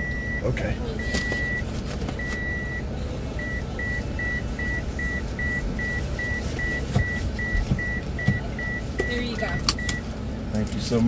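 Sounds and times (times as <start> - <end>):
vehicle warning beeper: 0.0 - 10.1
engine idling rumble: 0.0 - 11.0.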